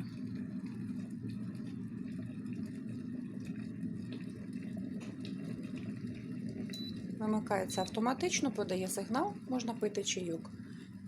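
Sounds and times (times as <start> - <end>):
kettle water bubbling: 0.0 - 11.0.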